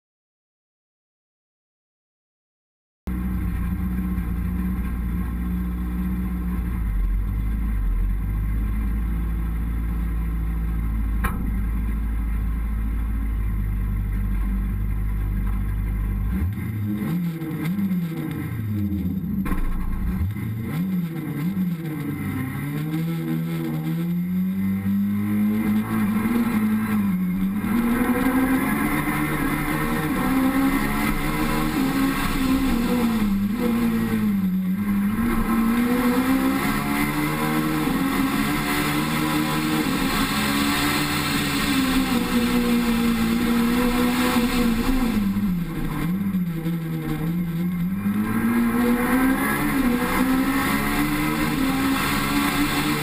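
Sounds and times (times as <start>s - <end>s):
rally car engine: 3.1s - 53.0s.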